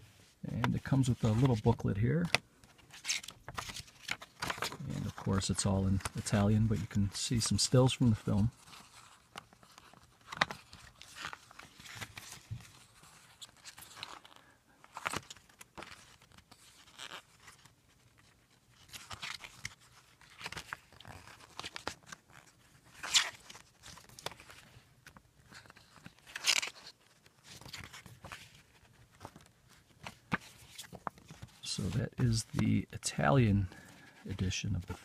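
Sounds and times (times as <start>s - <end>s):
booklet pages turning: 0.0s - 35.0s.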